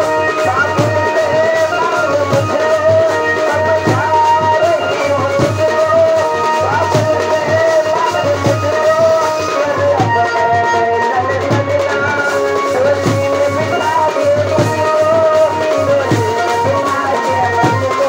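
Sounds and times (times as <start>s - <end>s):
band music through horn loudspeakers: 0.0s - 18.0s
steady drum beat: 0.0s - 18.0s.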